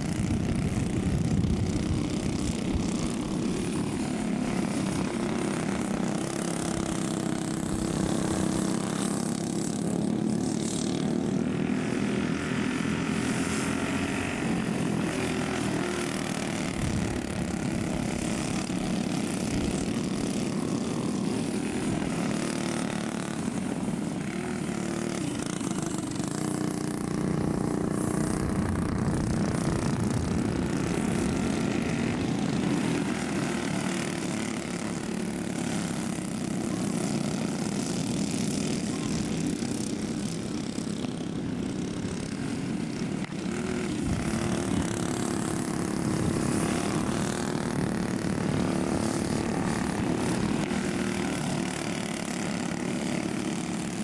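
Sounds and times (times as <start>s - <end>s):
go-kart engines buzzing: 0.0s - 54.0s.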